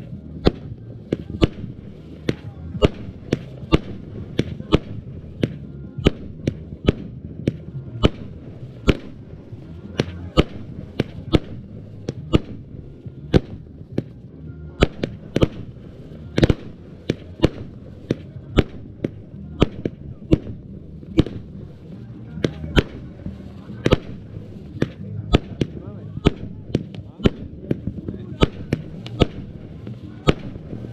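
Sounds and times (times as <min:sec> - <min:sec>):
firework bangs: 0:00.0 - 0:30.9
low rumble: 0:00.0 - 0:30.9.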